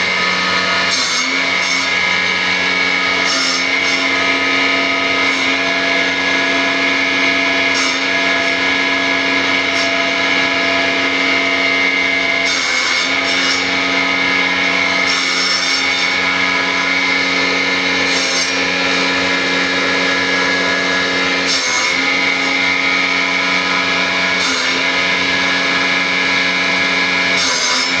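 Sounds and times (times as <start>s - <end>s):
power tool motor running: 0.0s - 28.0s.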